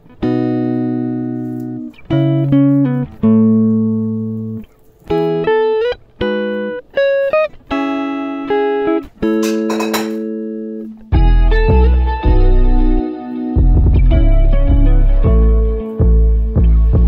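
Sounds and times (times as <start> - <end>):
guitar plucked notes and chords: 0.0 - 17.0.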